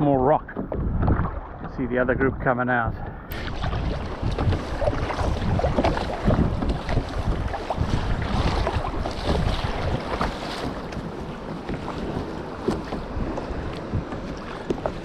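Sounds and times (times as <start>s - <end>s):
water splashing and lapping: 0.0s - 1.9s, 3.2s - 15.0s
wind buffeting microphone: 0.0s - 15.0s.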